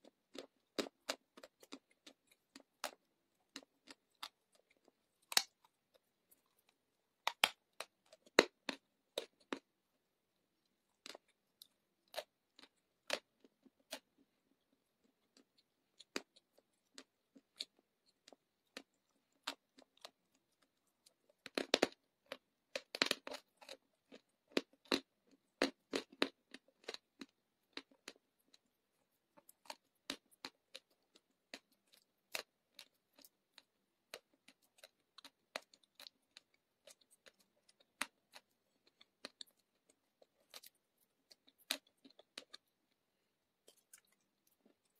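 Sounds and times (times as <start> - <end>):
clay chunks crunching when chewed: 0.0 - 44.9.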